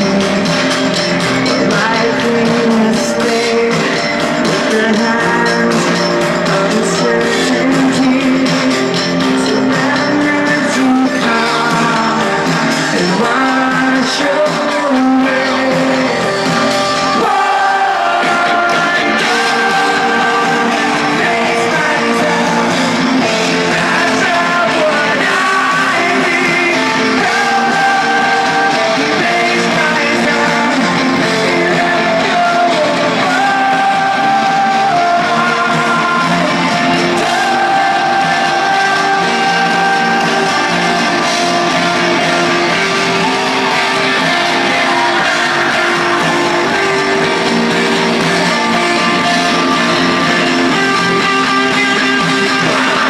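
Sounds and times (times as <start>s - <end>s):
male lead singer: 0.0s - 53.0s
rock band playing live: 0.0s - 53.0s.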